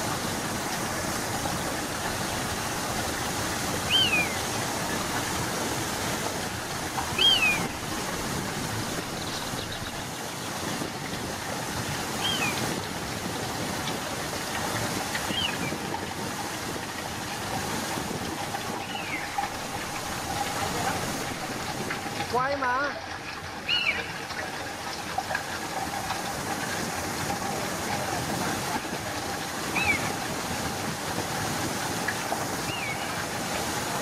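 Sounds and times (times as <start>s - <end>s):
stream water rushing into pool: 0.0s - 34.0s.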